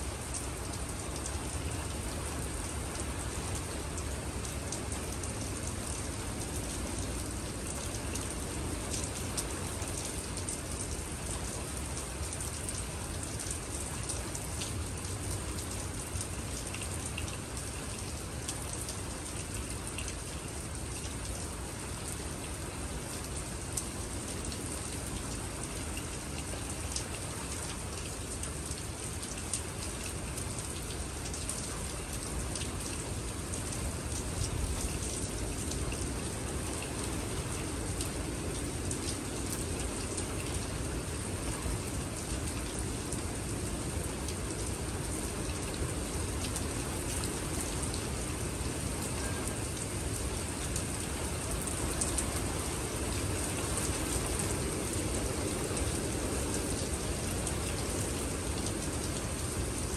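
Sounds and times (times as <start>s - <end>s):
rain on wet pavement: 0.0s - 59.9s.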